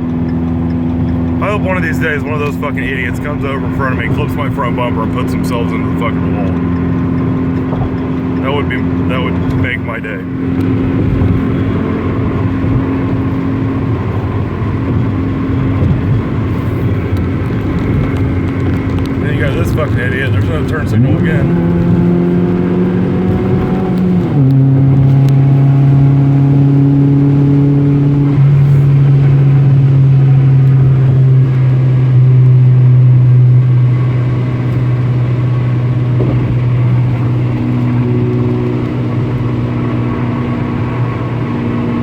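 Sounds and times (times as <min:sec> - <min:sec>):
car engine accelerating: 0:00.0 - 0:42.0.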